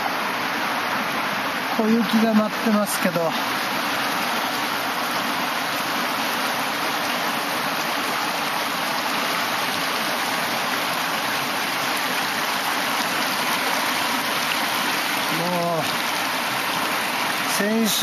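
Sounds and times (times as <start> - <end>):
river rushing over stones: 0.0 - 18.0.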